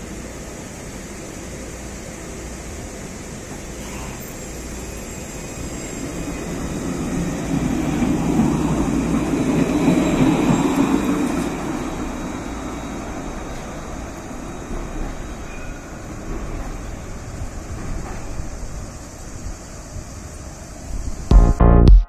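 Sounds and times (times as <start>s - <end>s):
tram rolling past: 0.0s - 21.3s.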